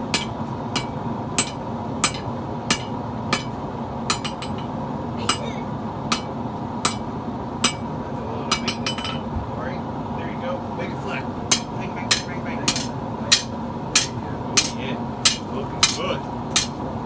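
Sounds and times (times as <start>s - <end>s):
hammer striking metal on anvil: 0.0s - 9.3s, 11.5s - 16.8s.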